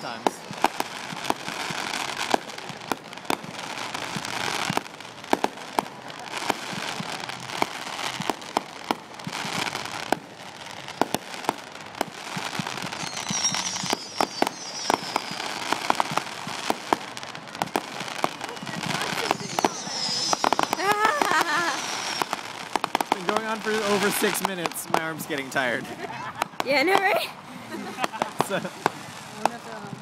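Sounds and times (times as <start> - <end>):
whistling firework: 0.0 - 27.2, 27.8 - 30.0
firework bangs and pops: 0.0 - 30.0
fireworks crackling: 0.0 - 30.0.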